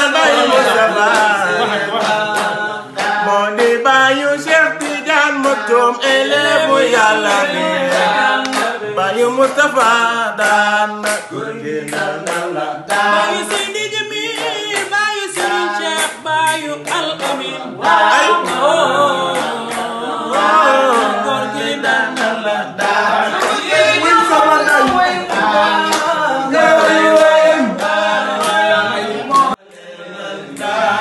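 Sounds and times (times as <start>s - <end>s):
men singing a cappella: 0.0s - 31.0s.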